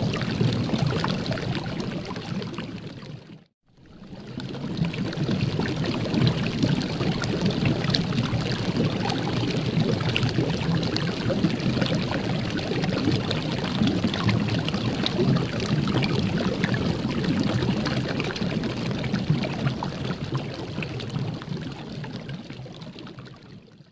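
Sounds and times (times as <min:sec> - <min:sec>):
liquid pouring and trickling: 0:00.0 - 0:23.7.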